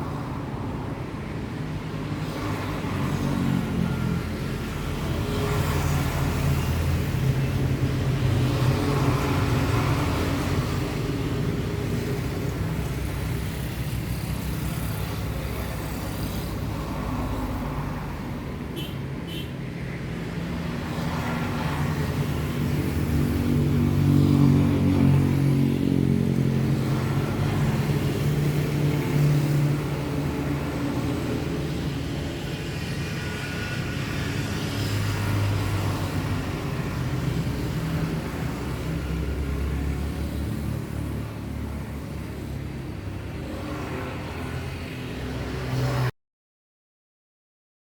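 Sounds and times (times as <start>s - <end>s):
road traffic hum: 0.0s - 46.2s.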